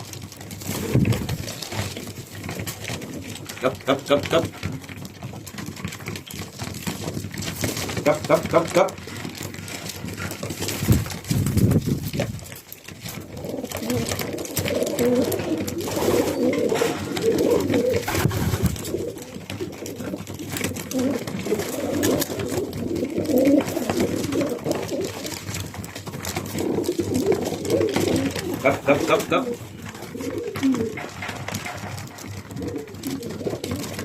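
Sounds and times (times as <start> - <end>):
pigeons cooing: 0.0 - 34.0
wings fluttering: 0.0 - 34.0.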